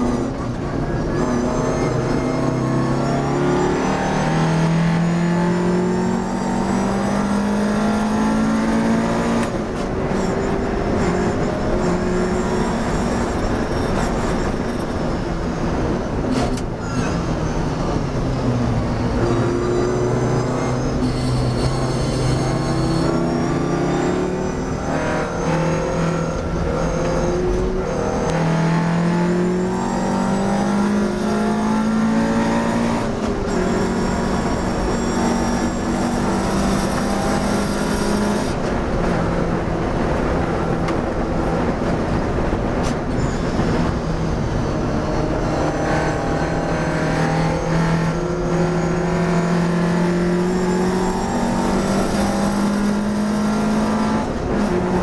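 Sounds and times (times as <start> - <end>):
racing car engine from cabin: 0.0 - 55.0.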